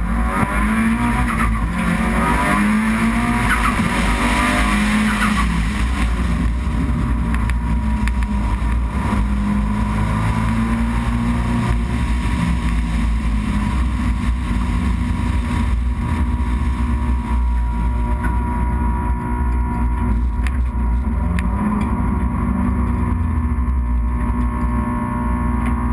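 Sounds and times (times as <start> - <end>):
race car engine at low revs: 0.0 - 25.9
steady low rumble: 0.0 - 25.9.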